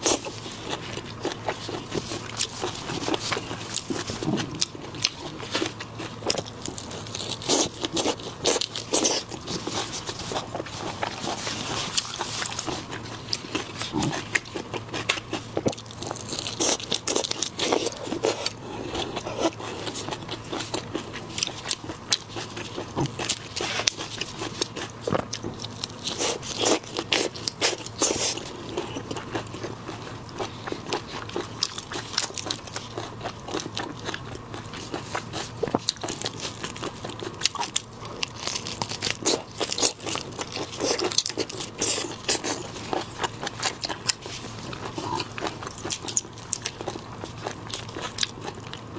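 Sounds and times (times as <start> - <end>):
crunching and chewing shrimp: 0.0 - 48.9.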